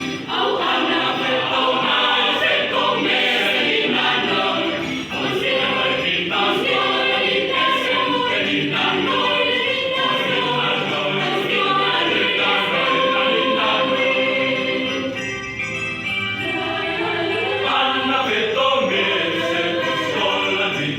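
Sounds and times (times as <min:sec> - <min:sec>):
choir singing in parts: 0:00.0 - 0:15.4, 0:16.4 - 0:20.9.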